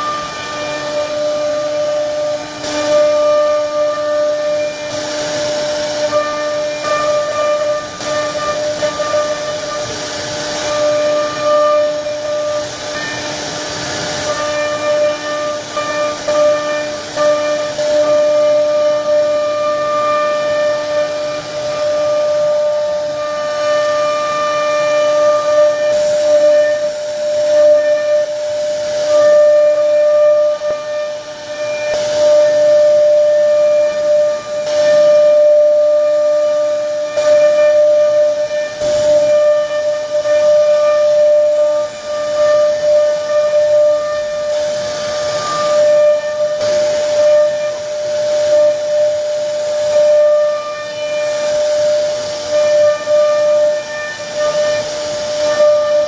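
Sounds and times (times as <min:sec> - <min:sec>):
router spindle whine: 0:00.0 - 0:56.0.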